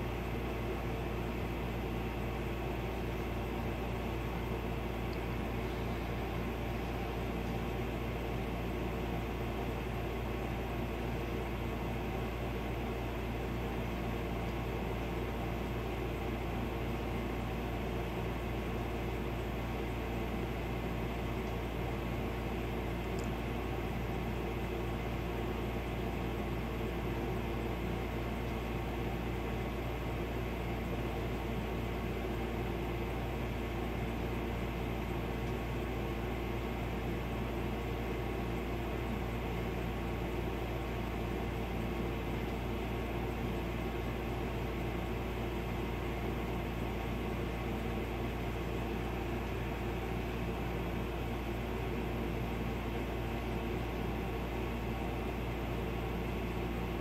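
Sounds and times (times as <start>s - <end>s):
indoor machine hum: 0.0s - 57.0s.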